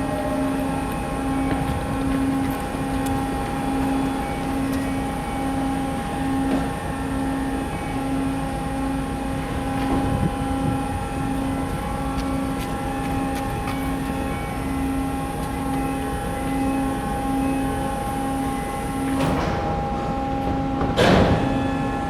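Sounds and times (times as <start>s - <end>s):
ship diesel engines droning: 0.0s - 22.0s.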